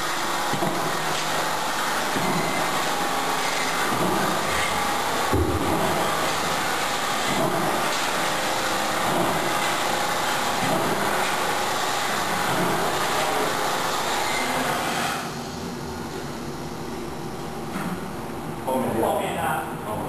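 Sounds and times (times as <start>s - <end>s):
roll-forming machine running: 0.0s - 19.0s.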